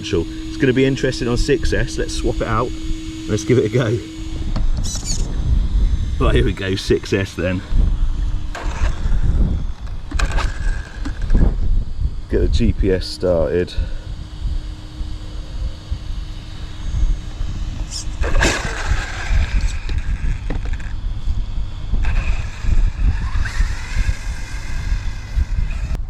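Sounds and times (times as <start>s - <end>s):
rc car electric motor whine: 0.0s - 26.0s
wind buffeting the microphone: 0.0s - 26.0s.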